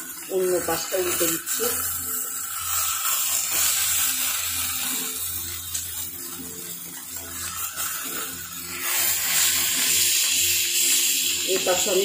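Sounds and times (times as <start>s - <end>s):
steaks sizzling on a grill pan: 0.0s - 12.0s
tongs turning meat: 0.0s - 12.0s.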